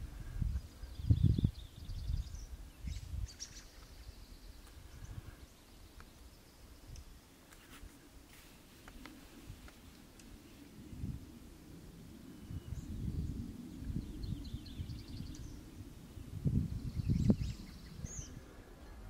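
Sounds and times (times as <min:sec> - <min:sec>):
wind buffeting microphone: 0:00.0 - 0:05.4, 0:08.9 - 0:19.0.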